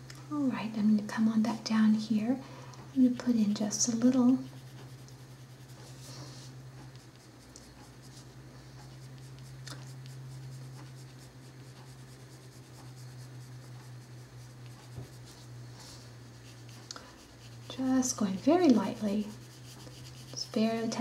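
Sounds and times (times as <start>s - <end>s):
steady low hum: 0.0s - 21.0s
colored pencil stroking paper: 3.5s - 21.0s.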